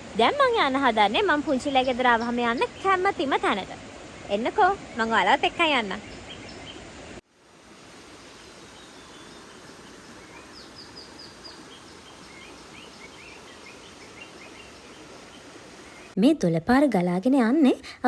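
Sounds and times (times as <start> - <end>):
birds chirping: 0.0 - 7.2, 8.3 - 16.2
stream flowing over rocks: 0.0 - 16.1.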